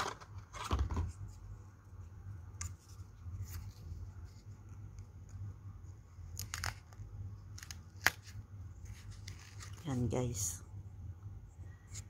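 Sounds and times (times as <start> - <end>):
rustling handling noises: 0.0 - 10.4
low steady hum: 0.0 - 12.0.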